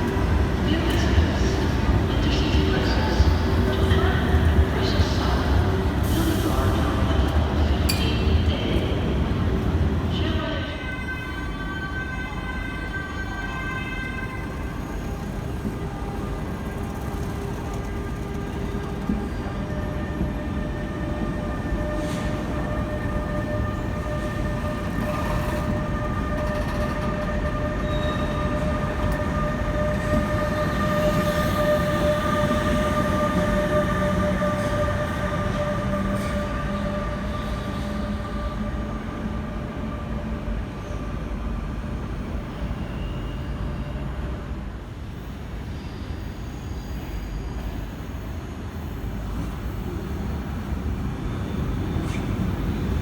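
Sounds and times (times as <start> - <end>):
train rumbling with high whine: 0.0 - 53.0.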